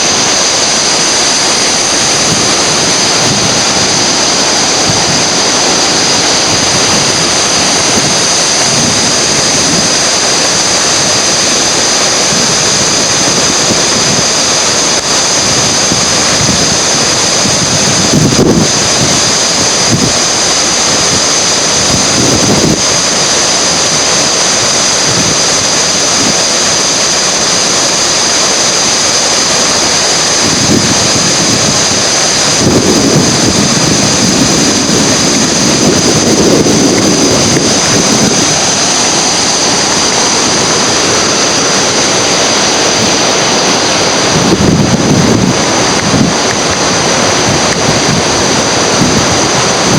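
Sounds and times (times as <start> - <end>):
whitewater rushing: 0.0 - 49.9
wind buffeting microphone: 0.0 - 49.9.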